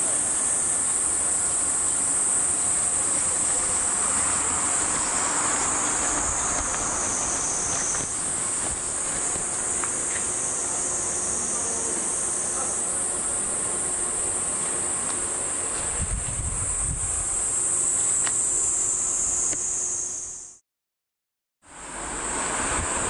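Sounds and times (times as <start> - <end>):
cicadas buzzing: 0.0 - 20.6, 21.7 - 23.0.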